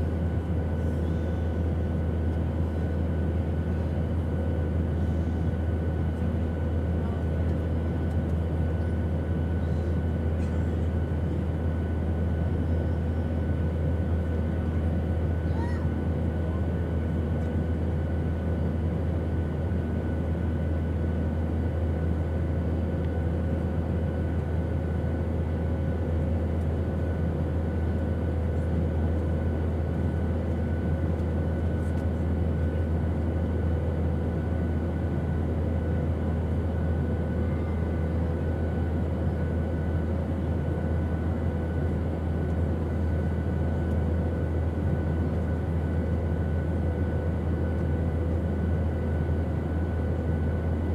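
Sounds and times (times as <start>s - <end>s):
airplane engine drone: 0.0s - 50.9s.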